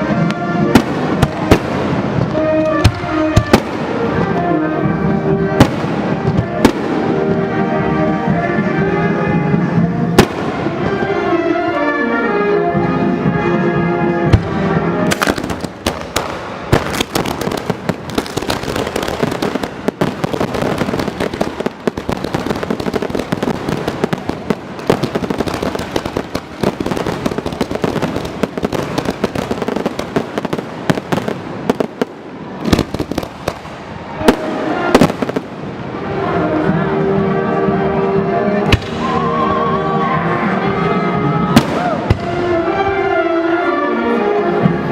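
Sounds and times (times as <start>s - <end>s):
fireworks bangs and crackles: 0.0s - 11.8s, 14.2s - 36.9s, 38.6s - 39.5s, 41.4s - 43.1s
music: 0.0s - 44.9s.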